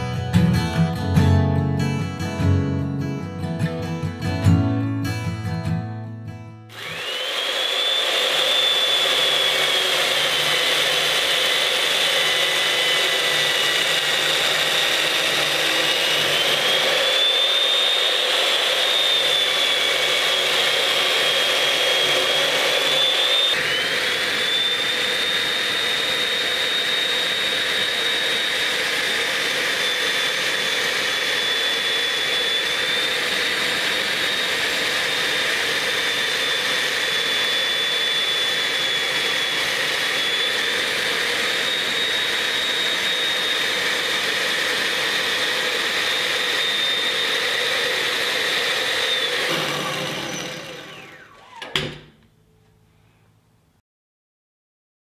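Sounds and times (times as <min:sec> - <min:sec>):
chain mortiser cutting wood: 0:06.7 - 0:52.2.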